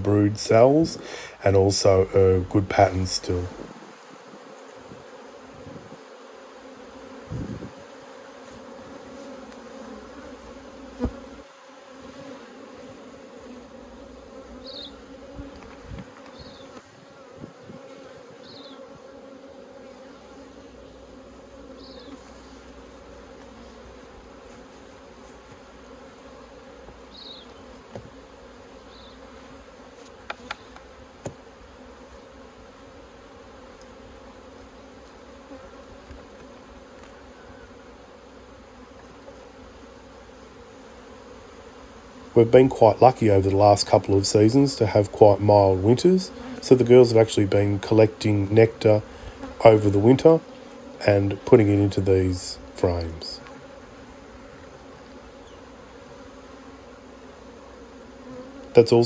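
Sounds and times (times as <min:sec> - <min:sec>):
honeybees humming: 0:00.0 - 0:59.0.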